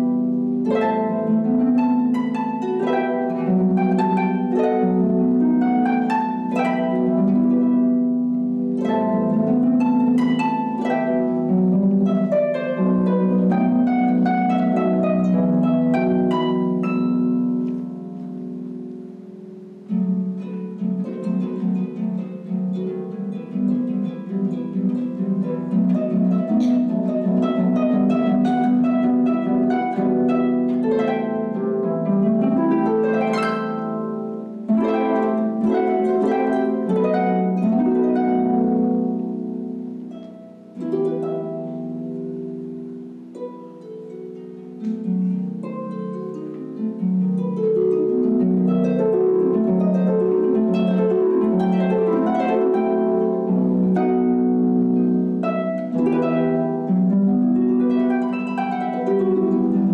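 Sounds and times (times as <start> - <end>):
harp playing slow piece: 0.0 - 59.9.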